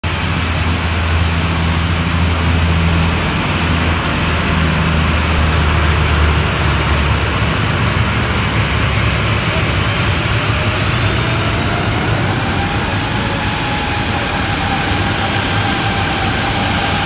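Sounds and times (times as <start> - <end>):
truck diesel engine hum: 0.0 - 17.0.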